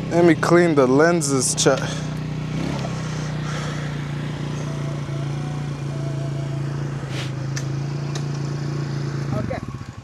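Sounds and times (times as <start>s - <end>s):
quad bike engine idling: 0.0s - 10.0s.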